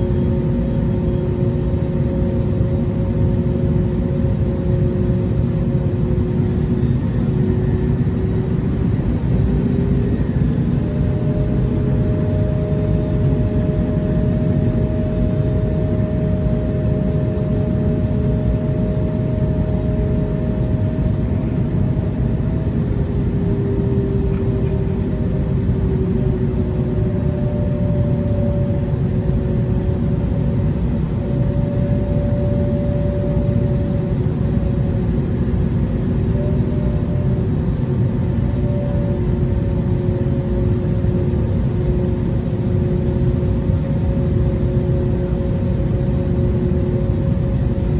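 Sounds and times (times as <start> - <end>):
jet engine cabin roar: 0.0 - 47.9.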